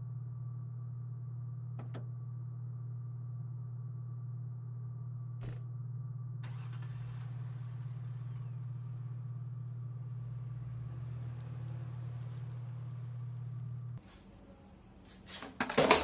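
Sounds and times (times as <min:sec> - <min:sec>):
vehicle engine humming: 0:00.0 - 0:15.1.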